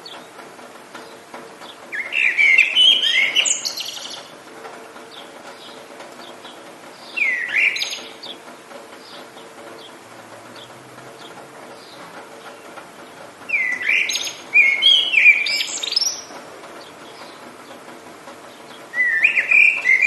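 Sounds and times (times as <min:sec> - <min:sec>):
rain hissing: 0:00.0 - 0:20.0
songbird singing: 0:00.0 - 0:20.0.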